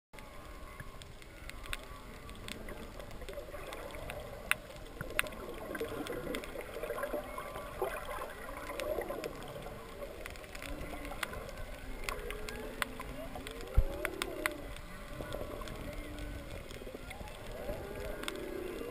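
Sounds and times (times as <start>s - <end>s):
reef clicks and crackle: 0.2s - 18.9s
whale song underwater: 0.2s - 18.9s.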